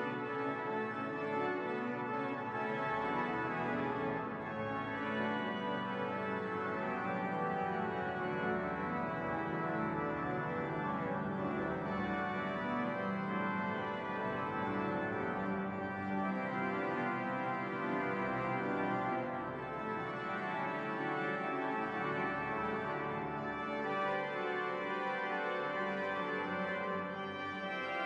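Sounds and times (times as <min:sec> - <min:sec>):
pipe organ playing slow chords: 0:00.0 - 0:28.0.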